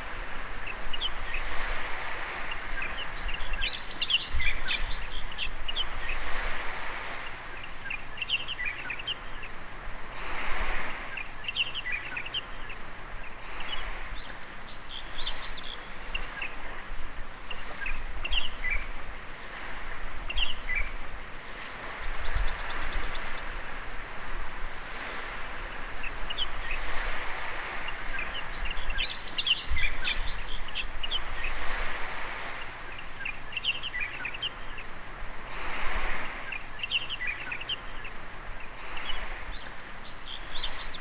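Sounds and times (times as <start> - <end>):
small birds chirping: 0.0 - 6.4, 7.0 - 9.6, 10.8 - 21.0, 21.7 - 23.9, 24.9 - 35.0, 36.1 - 41.0
waves breaking on a beach: 0.0 - 41.0.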